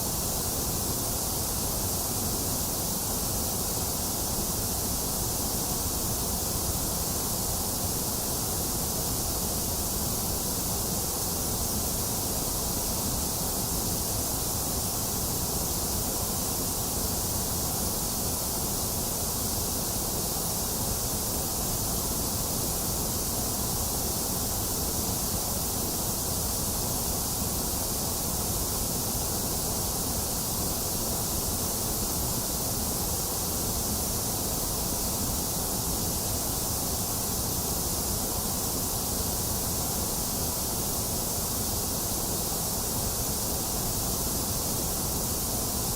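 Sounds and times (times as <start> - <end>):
white noise hiss: 0.0 - 45.9.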